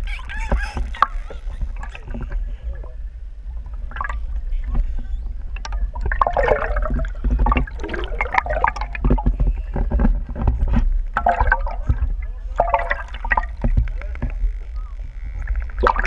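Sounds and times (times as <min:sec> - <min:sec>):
steady deep rumble: 0:00.0 - 0:16.0
water sloshing and gurgling: 0:00.0 - 0:16.0.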